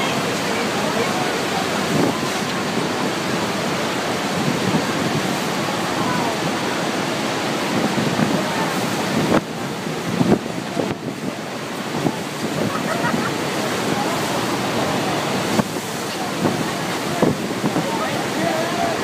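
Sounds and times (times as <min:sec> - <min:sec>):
waterfall roaring: 0:00.0 - 0:19.0
wind buffeting microphone: 0:00.0 - 0:19.0.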